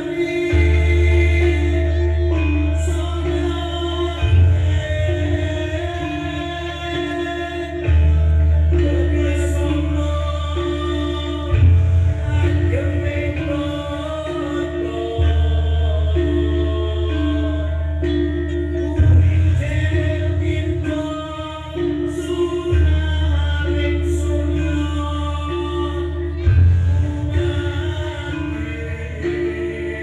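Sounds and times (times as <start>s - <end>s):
deep bass notes: 0.0s - 30.0s.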